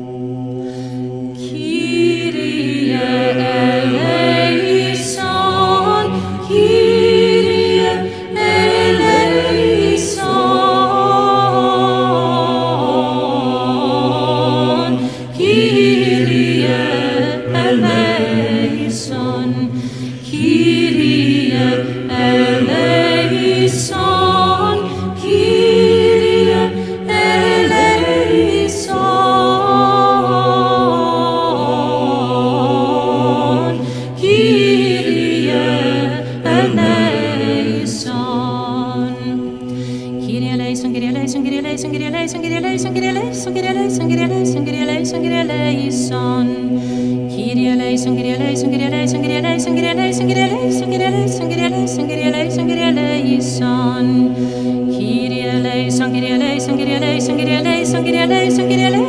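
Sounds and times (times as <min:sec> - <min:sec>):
choir singing low drone: 0:00.0 - 0:59.0
woman singing solo chant: 0:01.1 - 0:59.0.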